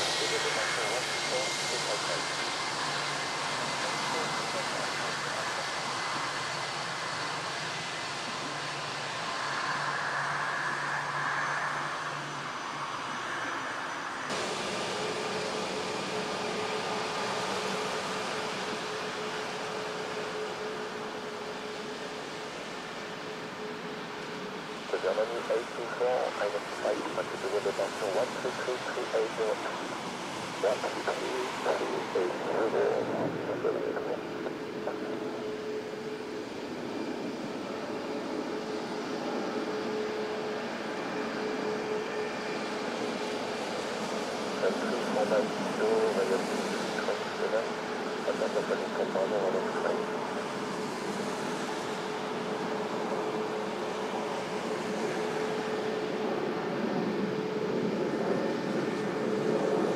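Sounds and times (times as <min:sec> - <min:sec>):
jet engines running with whine: 0:00.0 - 0:59.9.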